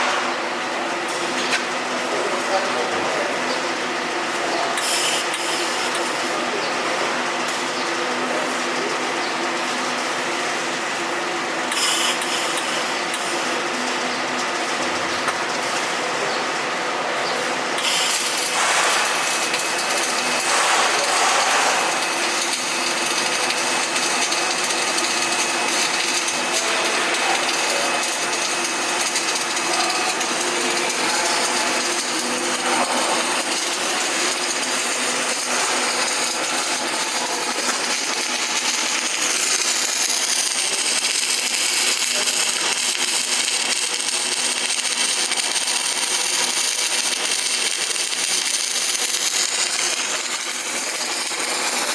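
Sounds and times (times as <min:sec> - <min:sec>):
welding machine hiss: 0:00.0 - 0:51.9.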